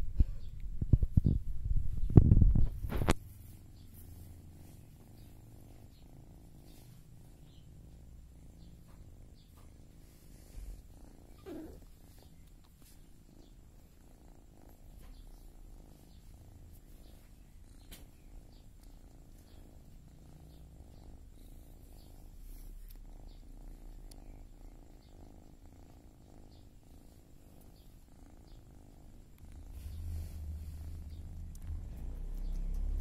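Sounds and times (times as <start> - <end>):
cats purring: 0.0 - 33.0.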